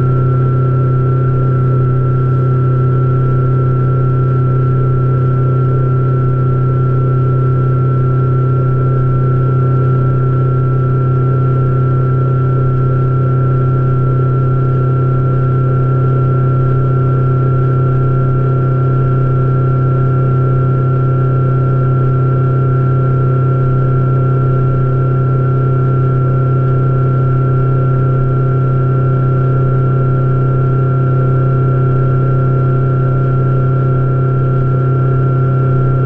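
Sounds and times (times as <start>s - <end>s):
outboard motor droning: 0.0s - 36.0s.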